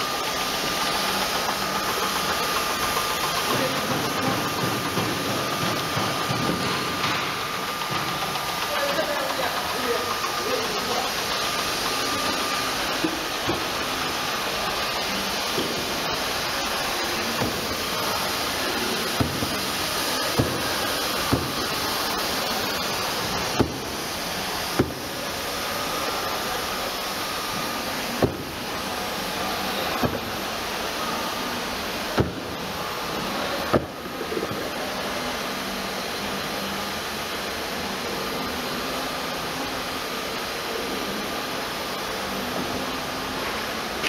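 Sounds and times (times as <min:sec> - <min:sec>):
steam hissing: 0:00.0 - 0:44.0.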